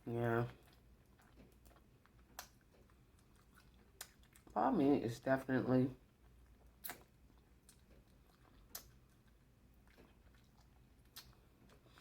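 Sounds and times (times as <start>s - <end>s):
chewing crab meat: 0.1s - 5.2s, 5.9s - 12.0s.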